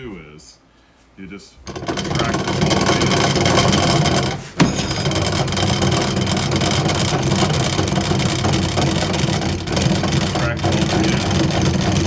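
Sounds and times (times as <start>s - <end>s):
bow press mechanism rattling: 1.7s - 12.0s.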